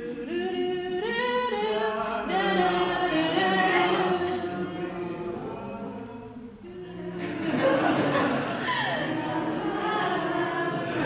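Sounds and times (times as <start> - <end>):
voices singing a cappella: 0.0 - 11.0.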